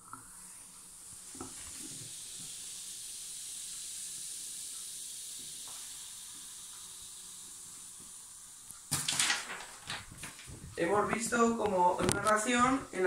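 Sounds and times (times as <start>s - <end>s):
fizzing liquid hissing: 0.0s - 13.0s.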